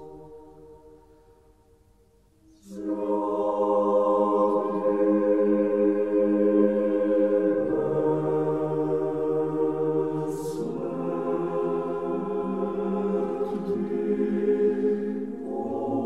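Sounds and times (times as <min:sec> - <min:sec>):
choir singing held chord: 0:00.0 - 0:01.4, 0:02.5 - 0:16.0.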